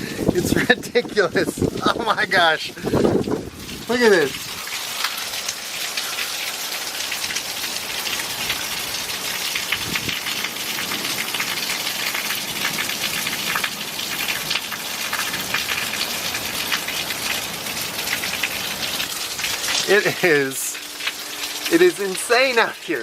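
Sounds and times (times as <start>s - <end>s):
heavy rain pouring down: 0.0s - 23.0s.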